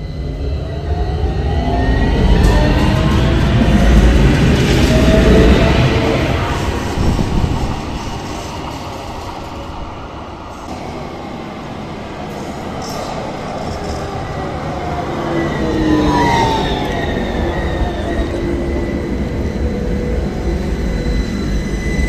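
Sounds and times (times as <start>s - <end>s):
tram wheels rumbling on rail: 0.0s - 22.0s.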